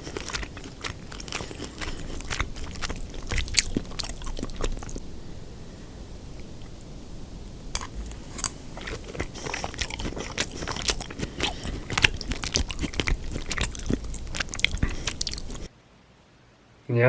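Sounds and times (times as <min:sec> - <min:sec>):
crunchy biting and chewing: 0:00.0 - 0:15.7.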